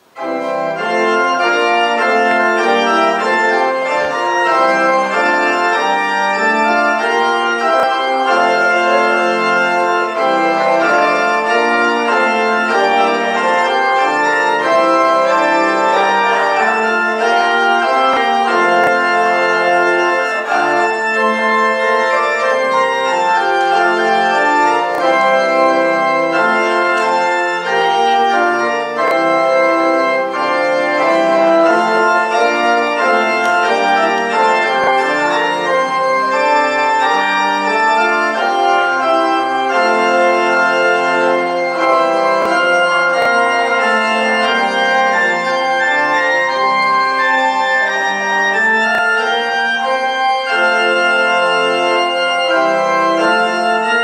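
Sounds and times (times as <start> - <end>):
church organ playing chords: 0.0 - 54.0.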